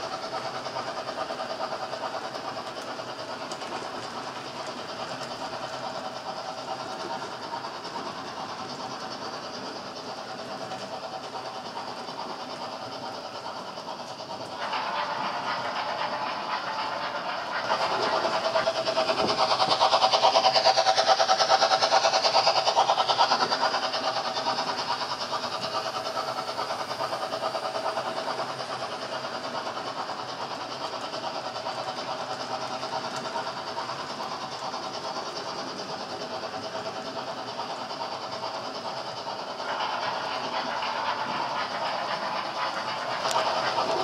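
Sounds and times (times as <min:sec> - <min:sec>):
wheels clicking on rail: 0:00.0 - 0:44.0.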